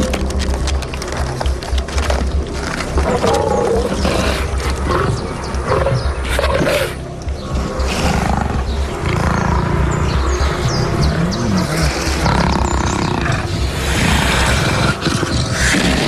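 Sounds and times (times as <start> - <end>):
music with low pulsing beat: 0.0 - 15.7
big cats growling and snarling: 0.0 - 16.0.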